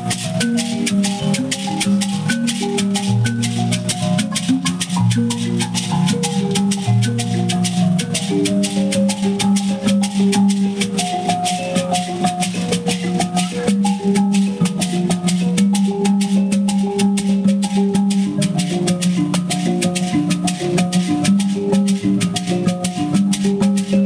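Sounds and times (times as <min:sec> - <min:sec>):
gourd shakers: 0:00.0 - 0:24.0
mbira plucked notes: 0:00.0 - 0:24.0.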